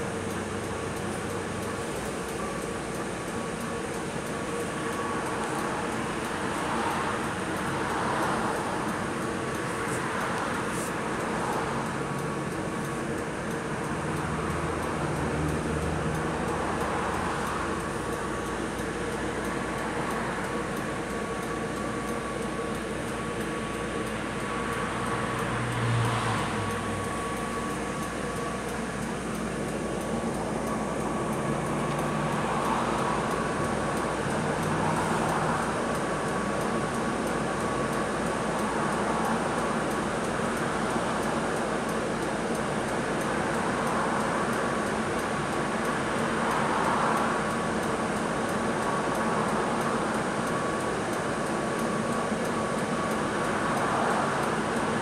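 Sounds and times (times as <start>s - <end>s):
bus engine and road noise: 0.0s - 55.0s
faint steady whine: 0.0s - 55.0s.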